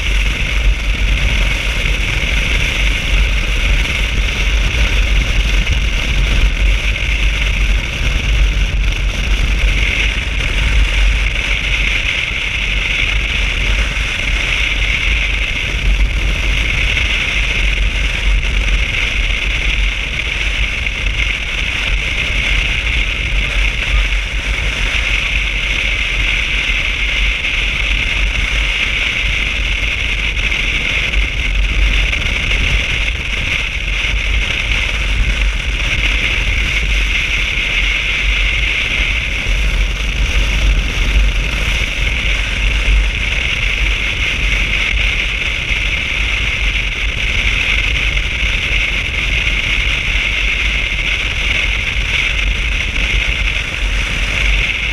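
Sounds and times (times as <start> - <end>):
motorcycle engine rumble: 0.0 - 54.9
wind rush: 0.0 - 54.9.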